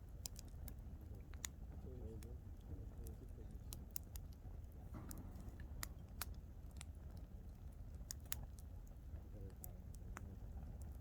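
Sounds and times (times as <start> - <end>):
campfire crackling and popping: 0.0 - 11.0
low steady rumble: 0.0 - 11.0.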